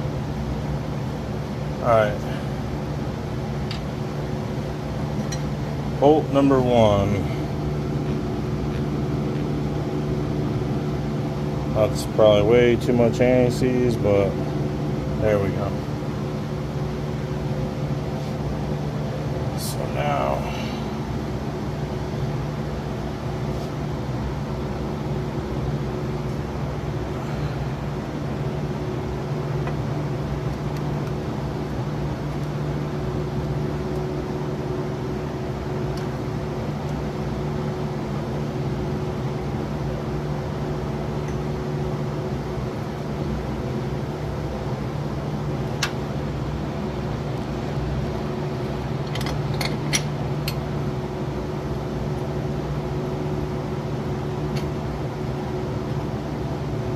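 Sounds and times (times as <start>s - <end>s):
machine hum: 0.0s - 56.9s.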